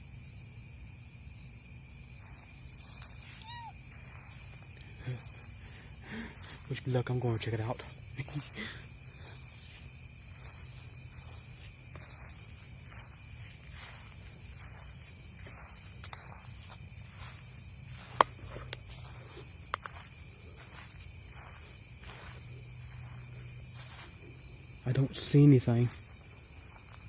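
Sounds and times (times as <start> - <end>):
night insects chirping: 0.0 - 27.0
soft footsteps outdoors: 0.0 - 27.0.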